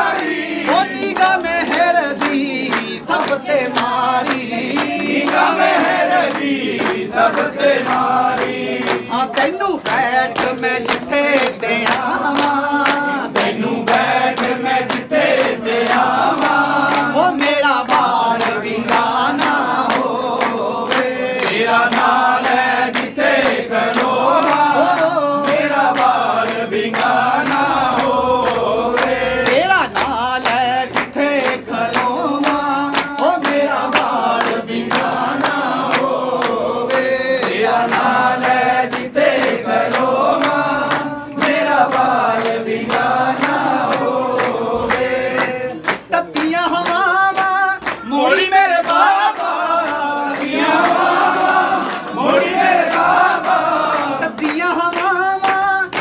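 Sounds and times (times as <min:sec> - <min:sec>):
sharp percussive beats: 0:00.0 - 0:49.6
group singing a devotional chant: 0:00.0 - 0:56.0.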